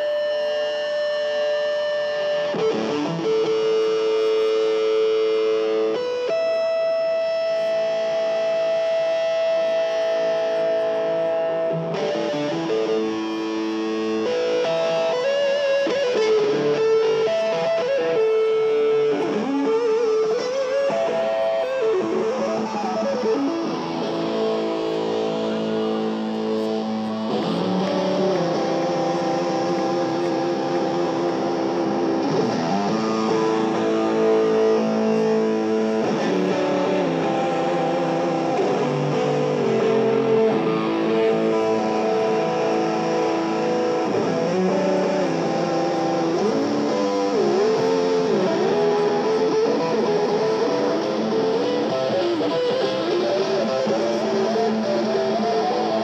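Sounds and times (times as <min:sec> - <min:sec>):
electric guitar music over pa: 0:00.0 - 0:56.0.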